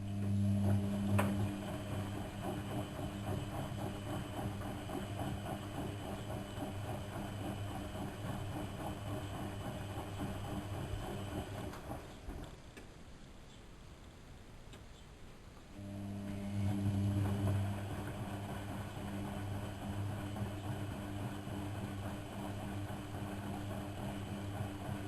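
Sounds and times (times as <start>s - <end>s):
washing machine motor humming: 0.0s - 12.6s, 15.8s - 25.0s.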